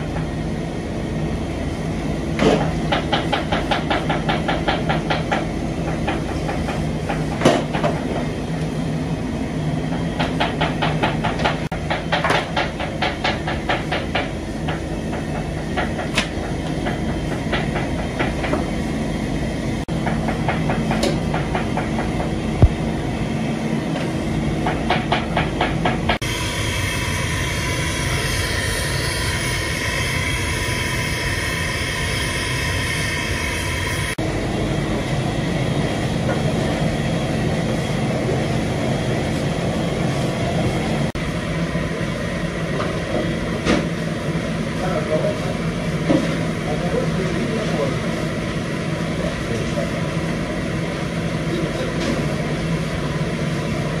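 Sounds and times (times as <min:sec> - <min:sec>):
gas burner flames rushing: 0:00.0 - 0:54.0
steady low hum: 0:00.0 - 0:54.0.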